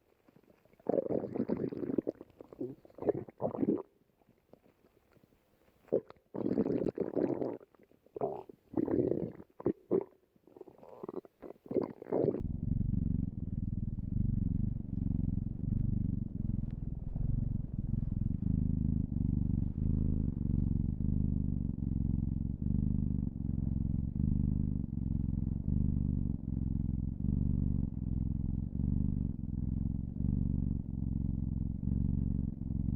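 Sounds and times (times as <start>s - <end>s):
stomach growling: 0.0s - 32.9s.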